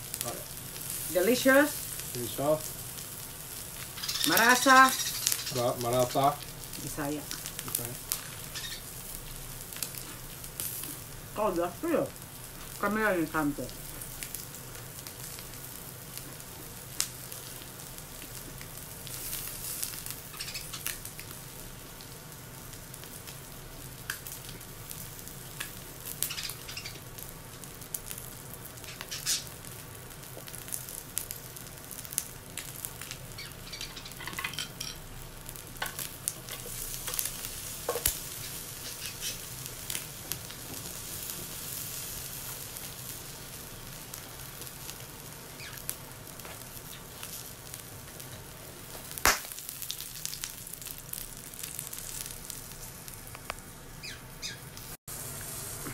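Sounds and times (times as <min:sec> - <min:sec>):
meat sizzling on grill plate: 0:00.0 - 0:55.9
sharp pops and crackles: 0:00.1 - 0:11.0, 0:13.7 - 0:22.1, 0:24.0 - 0:41.0, 0:44.1 - 0:55.9.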